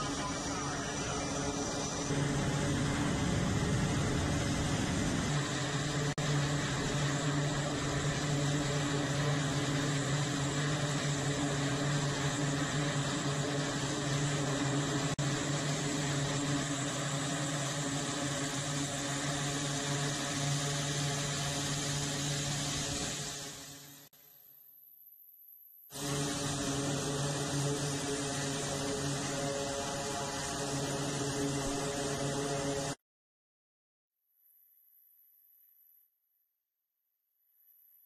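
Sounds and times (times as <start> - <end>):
turboprop aircraft engines droning: 0.0 - 24.1, 25.9 - 33.0.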